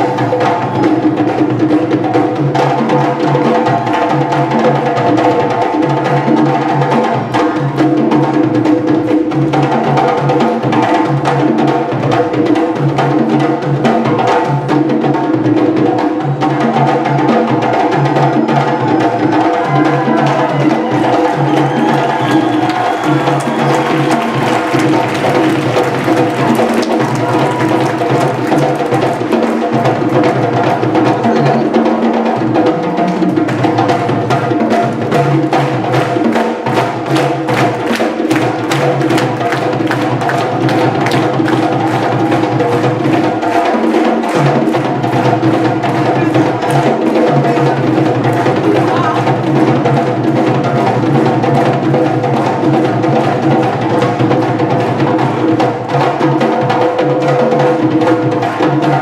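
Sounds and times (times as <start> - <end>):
rapid drum and wood-block strikes: 0.0 - 59.0.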